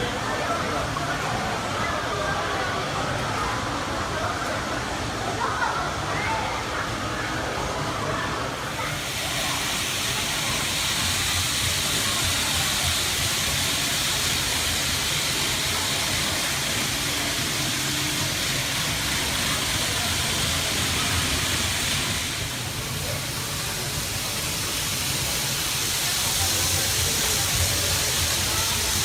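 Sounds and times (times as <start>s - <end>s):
model trains whirring on track: 0.0s - 29.0s
shop background noise: 0.0s - 29.0s.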